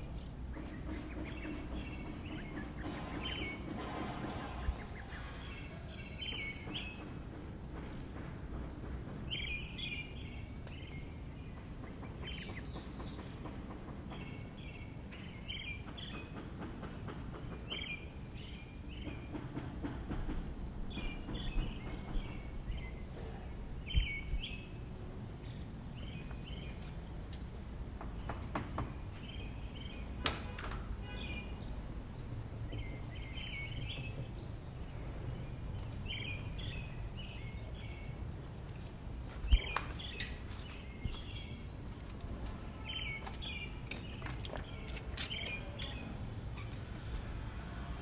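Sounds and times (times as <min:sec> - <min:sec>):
bird chirping: 0:00.0 - 0:07.2, 0:09.3 - 0:19.4, 0:20.9 - 0:27.0, 0:29.1 - 0:38.4, 0:39.4 - 0:46.7.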